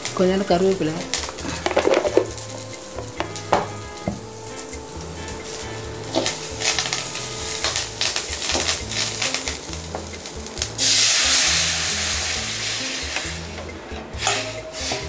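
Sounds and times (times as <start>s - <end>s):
spices sizzling in hot oil: 0.0s - 15.0s
metal ladle scraping a pan: 1.0s - 15.0s.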